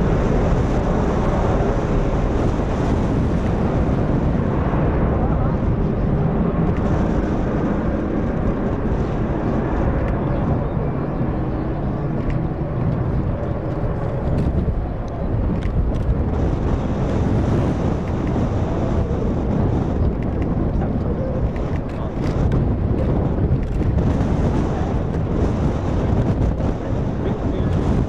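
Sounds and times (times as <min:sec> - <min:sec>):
distant jet engines rumbling: 0:00.0 - 0:28.0.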